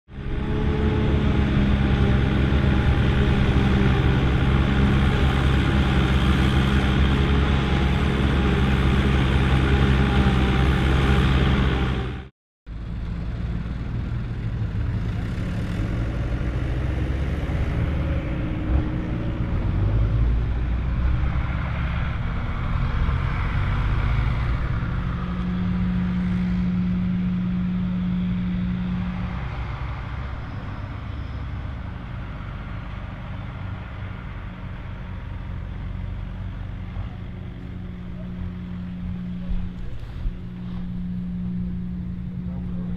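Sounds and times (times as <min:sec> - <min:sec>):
tractor engine running: 0:00.1 - 0:42.9.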